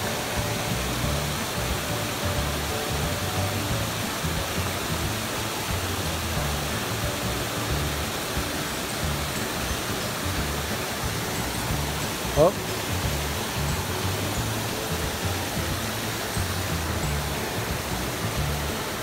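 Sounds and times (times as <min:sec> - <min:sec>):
background music with bass: 0:00.0 - 0:19.0
creek water flowing: 0:00.0 - 0:19.0.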